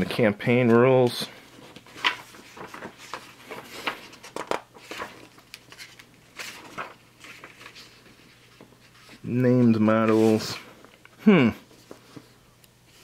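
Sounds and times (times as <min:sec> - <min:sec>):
paper pages rustling and flipping: 0:00.5 - 0:13.0.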